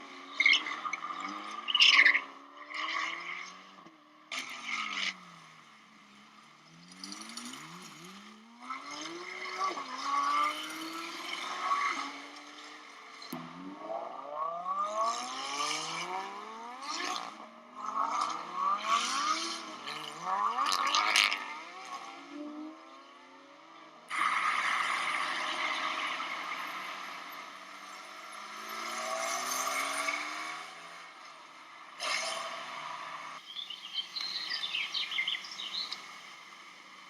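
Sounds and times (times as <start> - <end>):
vehicle engine revving: 0.0 - 33.4.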